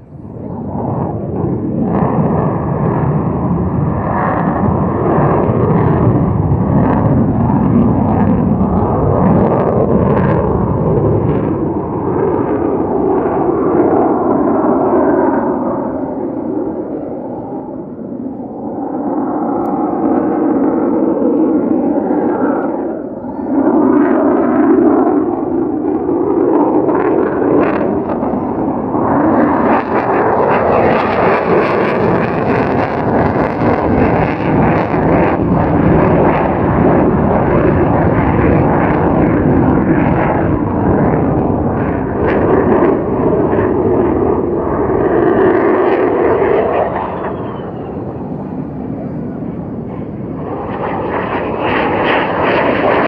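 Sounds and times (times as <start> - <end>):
jet engine roaring overhead: 0.0 - 53.0.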